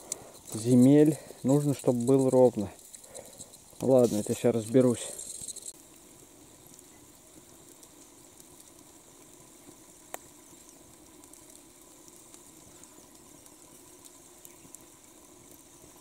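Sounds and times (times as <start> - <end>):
background hiss: 0.0 - 16.0
small ticks: 0.0 - 16.0.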